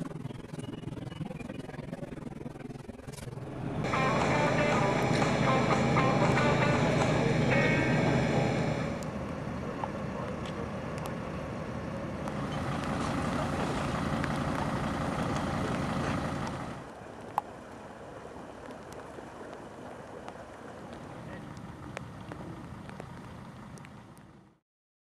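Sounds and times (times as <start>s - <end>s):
outdoor background noise: 0.0s - 24.6s
fire engines running: 0.1s - 24.6s.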